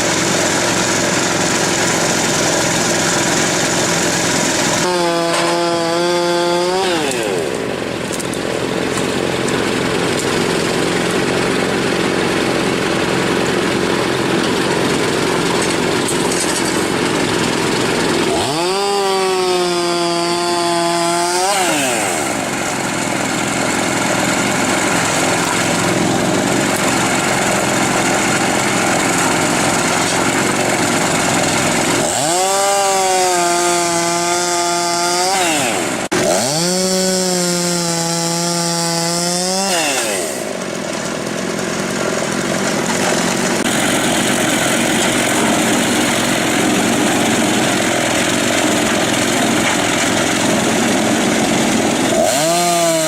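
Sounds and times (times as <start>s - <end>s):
firewood machinery running: 0.0s - 53.0s
small engine revving: 0.0s - 53.0s.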